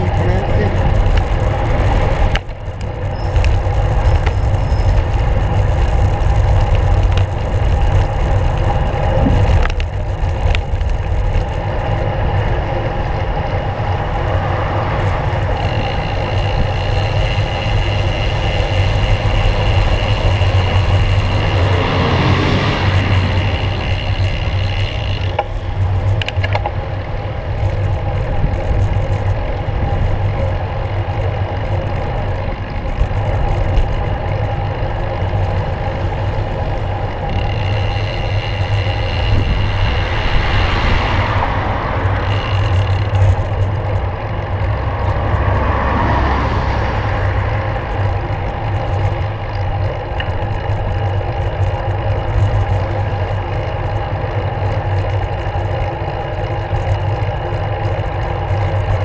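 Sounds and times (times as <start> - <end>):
bike rattling clicks: 0.0 - 59.0
road rumble: 0.0 - 59.0
wind buffeting: 0.0 - 59.0.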